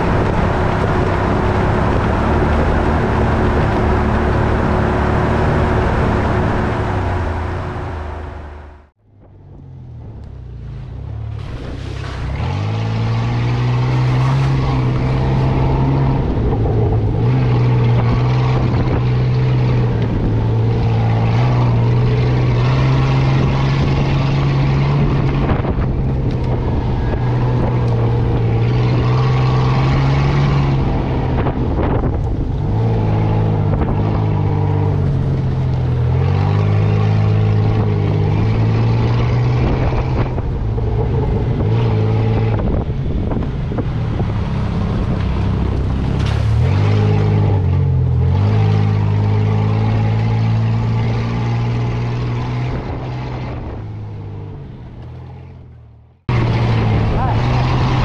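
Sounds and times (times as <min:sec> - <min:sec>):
wind on microphone: 0:00.0 - 0:07.8, 0:11.6 - 0:54.9
off-road vehicle engine running: 0:00.0 - 0:58.0.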